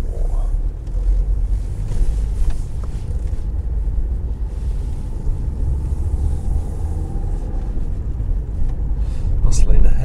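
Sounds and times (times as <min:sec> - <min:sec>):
car driving in traffic: 0:00.0 - 0:10.0.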